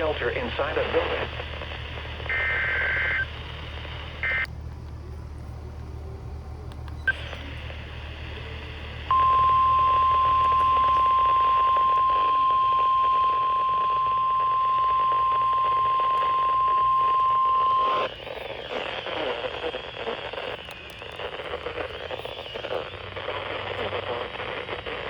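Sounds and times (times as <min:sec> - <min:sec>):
radio hiss: 0:00.0 - 0:04.5, 0:07.0 - 0:25.0.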